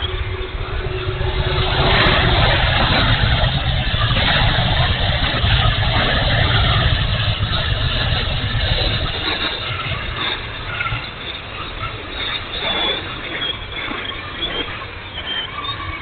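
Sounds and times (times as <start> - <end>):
electric ducted fan whine: 0.0 - 16.0
wind buffeting microphone: 0.0 - 16.0.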